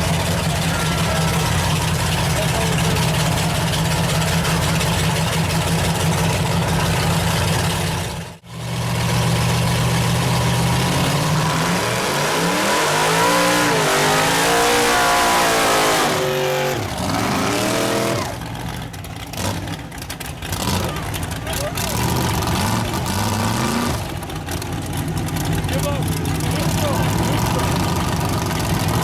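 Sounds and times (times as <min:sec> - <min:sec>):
truck engine running and revving: 0:00.0 - 0:29.0.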